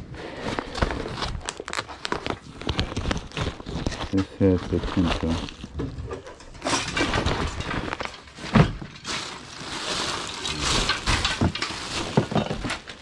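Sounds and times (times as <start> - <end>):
rustling and clattering objects: 0.0 - 13.0.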